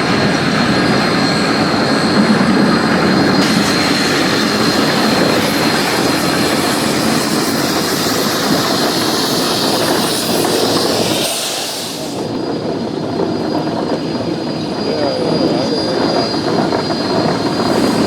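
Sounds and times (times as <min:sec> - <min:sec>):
high squeal: 0:00.0 - 0:18.0
steam locomotive exhaust and running gear: 0:00.0 - 0:18.0.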